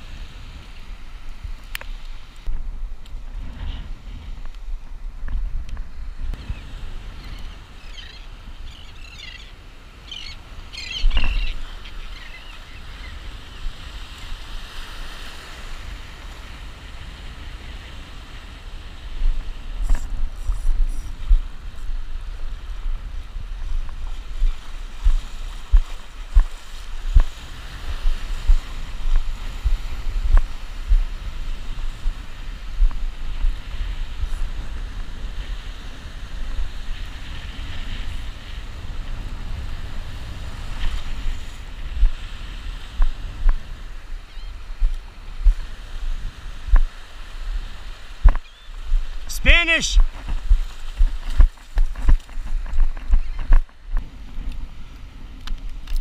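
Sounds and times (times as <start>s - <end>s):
waves breaking in surf: 5.8s - 56.0s
wind buffeting microphone: 10.0s - 49.3s, 50.0s - 56.0s.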